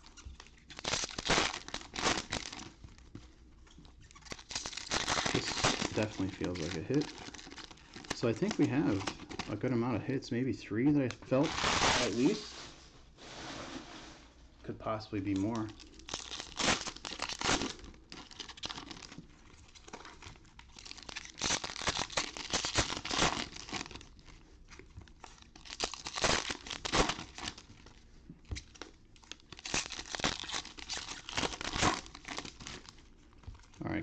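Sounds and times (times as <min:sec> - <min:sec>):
card pack wrappers tearing and crinkling: 0:00.0 - 0:03.0, 0:04.0 - 0:09.9, 0:10.9 - 0:12.5, 0:15.2 - 0:33.8.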